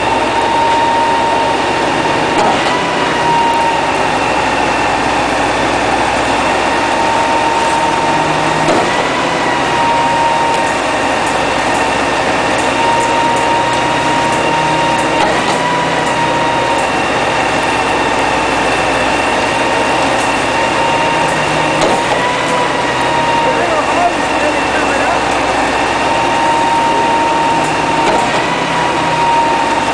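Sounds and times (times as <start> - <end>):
pump truck engine running: 0.0 - 29.9
steady high whine: 0.0 - 29.9.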